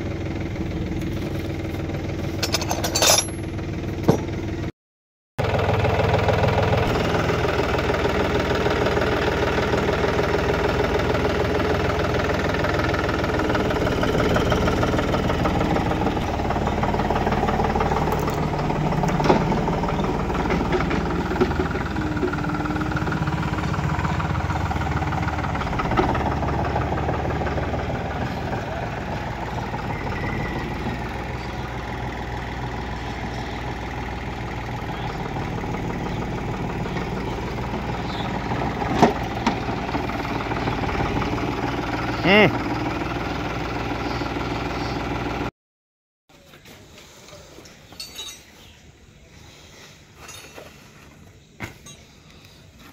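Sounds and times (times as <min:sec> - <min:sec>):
tractor diesel engine running: 0:00.0 - 0:04.7, 0:05.4 - 0:45.5.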